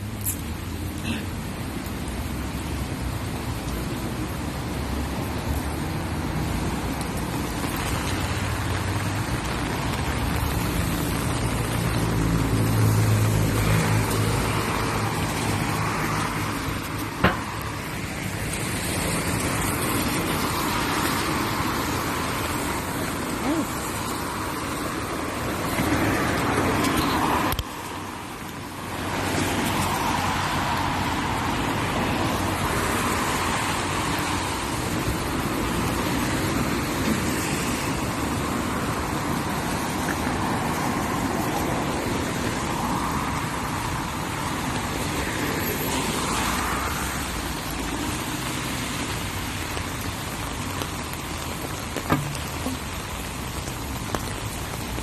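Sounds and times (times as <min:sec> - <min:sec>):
falling rain: 0:00.0 - 0:55.0
road traffic: 0:00.0 - 0:55.0.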